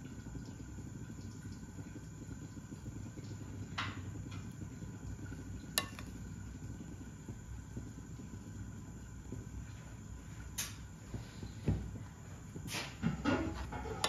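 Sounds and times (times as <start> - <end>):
steady low background hum: 0.0 - 14.0.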